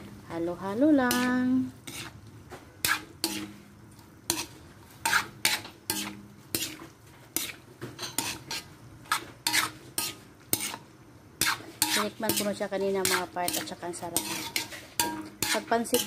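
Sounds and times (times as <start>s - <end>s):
metal spatula scraping a wok: 0.0s - 16.0s.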